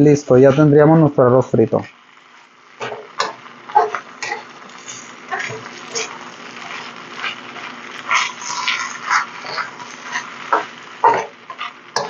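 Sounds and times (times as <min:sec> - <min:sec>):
wooden spoon scraping wok: 0:01.8 - 0:12.0.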